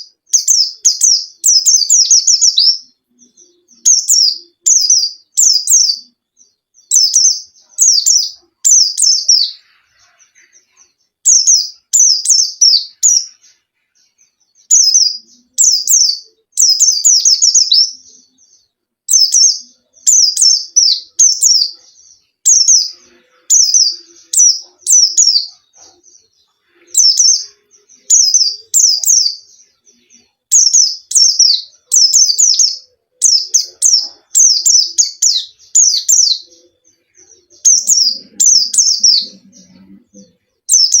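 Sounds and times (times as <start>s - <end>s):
small bird chirping: 0.0s - 41.0s.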